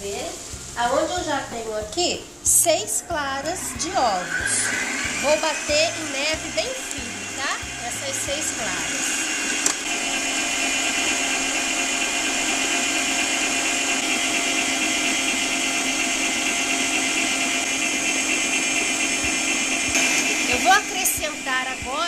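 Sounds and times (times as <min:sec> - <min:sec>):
stand mixer whisking: 0:03.5 - 0:22.0.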